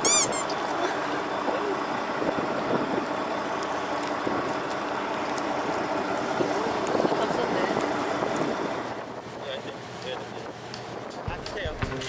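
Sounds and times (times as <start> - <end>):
boat engine idling: 0.0 - 12.0
wind and sea noise: 0.0 - 12.0.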